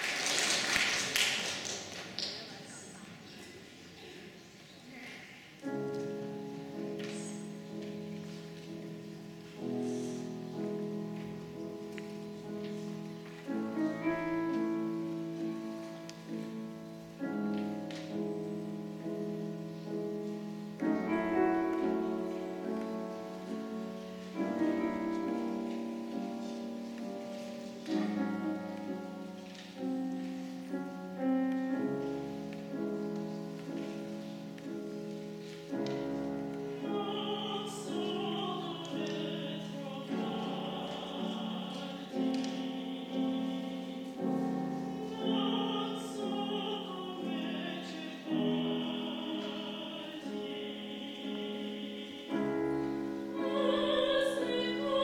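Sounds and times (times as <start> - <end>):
grand piano chords: 5.4 - 55.0.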